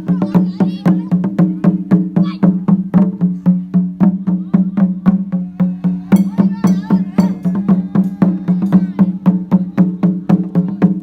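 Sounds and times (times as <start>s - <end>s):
percussion fast sharp strikes: 0.0s - 11.0s.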